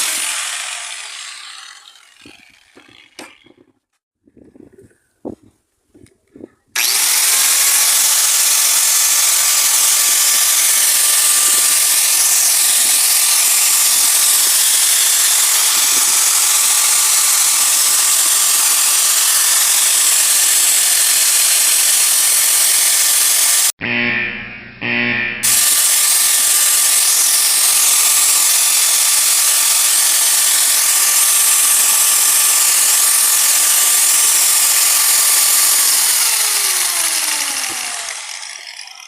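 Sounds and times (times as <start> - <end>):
angle grinder grinding metal: 0.0 - 3.8, 6.8 - 39.0.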